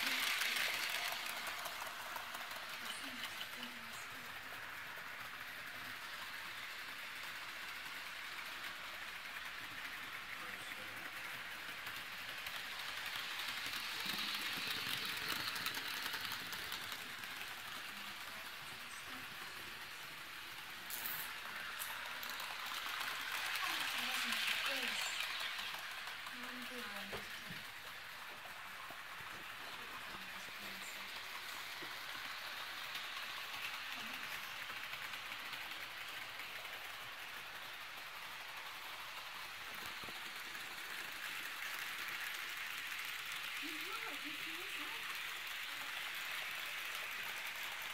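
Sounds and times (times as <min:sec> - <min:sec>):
model locomotive rolling and whirring: 0:00.0 - 0:47.9.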